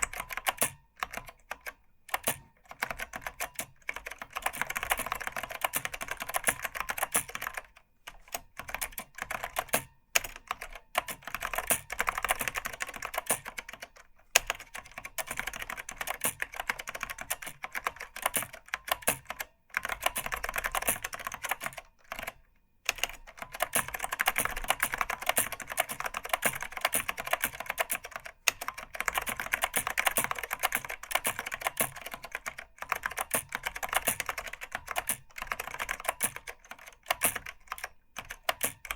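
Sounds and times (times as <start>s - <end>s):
keyboard typing clatter: 0.0s - 38.9s.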